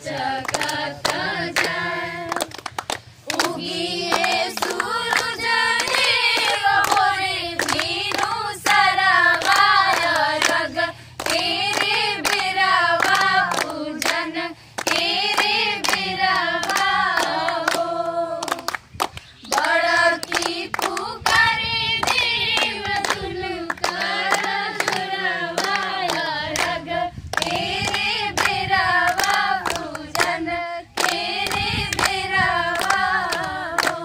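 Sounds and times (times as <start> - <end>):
group singing unaccompanied: 0.0 - 34.0
hands clapping rhythmically: 0.0 - 34.0.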